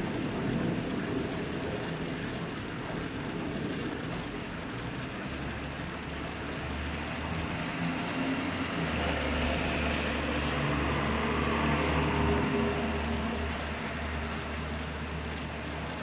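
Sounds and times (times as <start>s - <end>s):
steady rain: 0.0s - 16.0s
car driving past on wet road: 3.1s - 16.0s.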